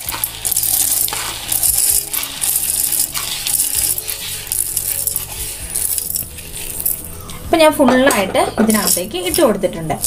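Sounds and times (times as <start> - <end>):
peanuts rattling into metal jar: 0.0 - 7.2, 8.6 - 10.0.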